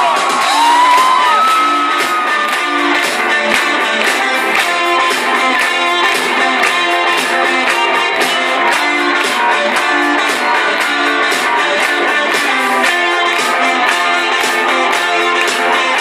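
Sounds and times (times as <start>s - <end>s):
steady drum beat: 0.0s - 16.0s
strummed guitars: 0.0s - 16.0s.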